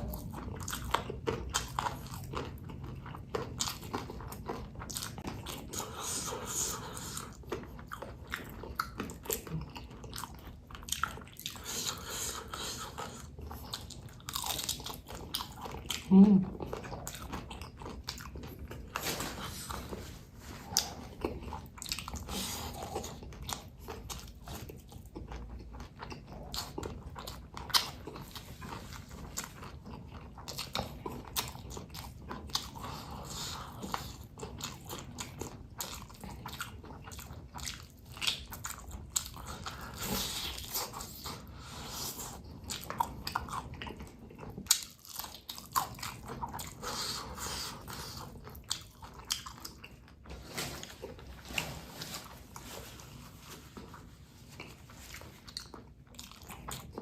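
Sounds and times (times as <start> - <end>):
person chewing crunchy chilies: 0.0 - 57.0.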